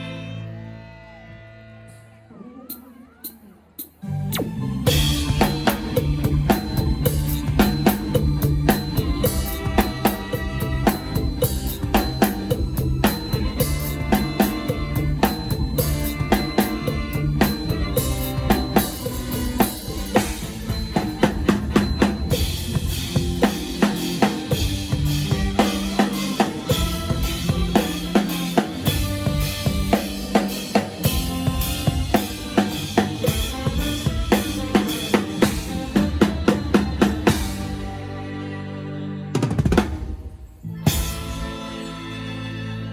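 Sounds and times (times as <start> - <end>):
band bass and instruments: 0.0 - 2.2, 3.8 - 42.9
drum kit groove: 3.2 - 38.2, 39.4 - 42.0.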